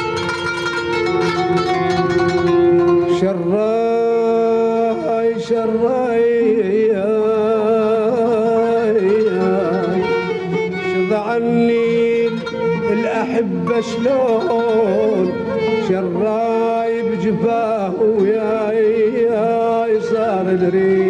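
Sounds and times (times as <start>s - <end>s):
plucked string accompaniment: 0.0s - 21.0s
person singing ornamented melody: 3.0s - 21.0s.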